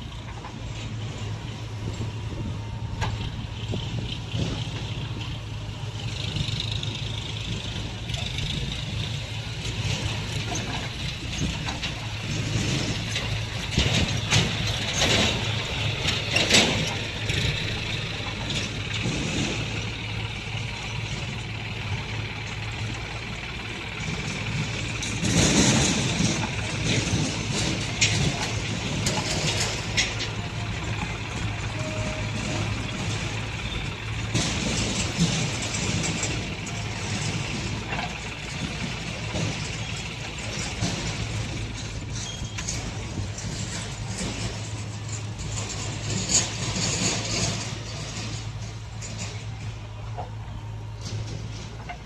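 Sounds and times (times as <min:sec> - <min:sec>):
diesel machinery running: 0:00.0 - 0:52.0.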